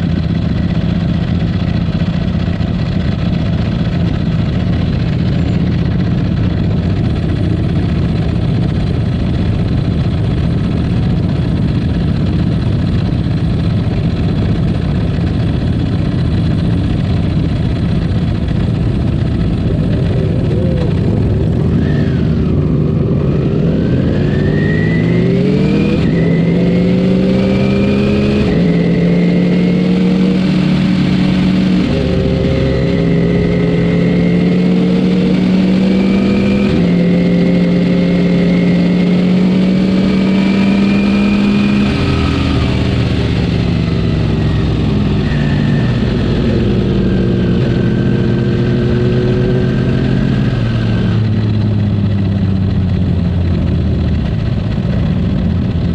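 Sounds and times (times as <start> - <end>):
motorcycle engine cruising: 0.0 - 55.9
wind rush over microphone: 0.0 - 55.9.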